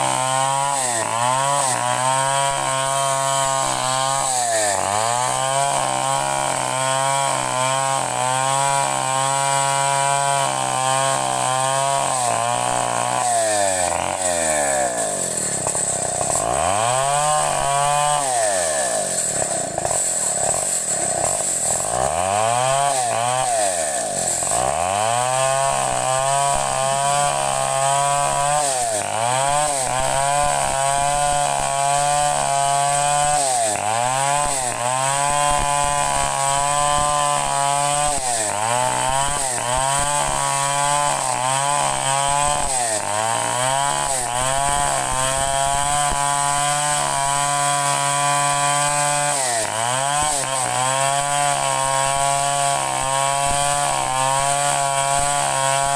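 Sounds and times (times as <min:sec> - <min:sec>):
chainsaw running at high revs: 0:00.0 - 0:55.9.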